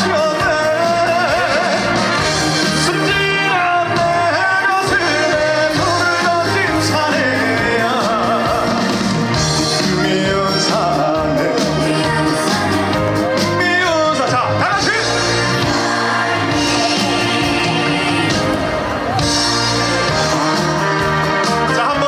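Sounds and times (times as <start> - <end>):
man singing: 0.0 - 12.4, 13.2 - 18.6, 21.3 - 22.0
live band playing: 0.0 - 22.0.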